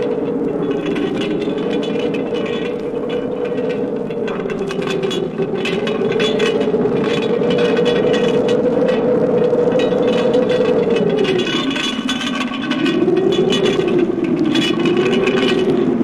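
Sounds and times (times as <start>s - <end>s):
crackling clicks: 0.0s - 16.0s
howling wind moan: 0.0s - 16.0s.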